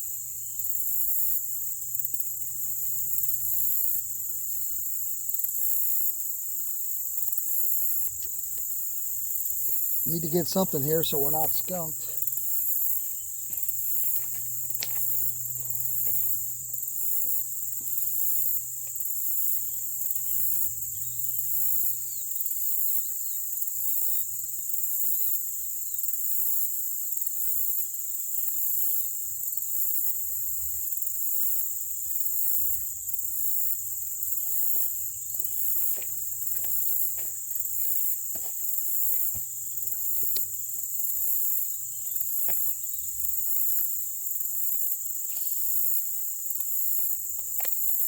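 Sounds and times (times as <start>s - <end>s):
insect chorus: 0.0s - 48.0s.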